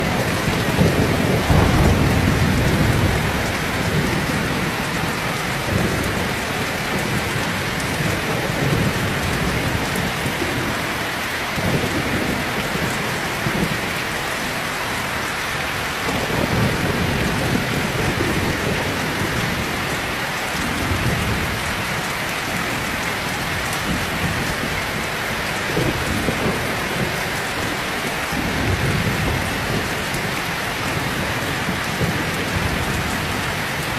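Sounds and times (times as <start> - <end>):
low rolling thunder: 0.0 - 14.1, 16.0 - 33.9
heavy rain pouring: 0.0 - 33.9.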